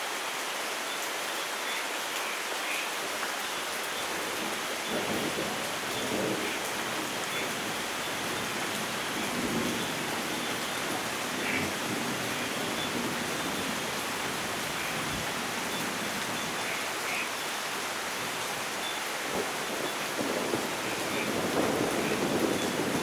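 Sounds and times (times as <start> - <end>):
rain on foliage: 0.0 - 23.0.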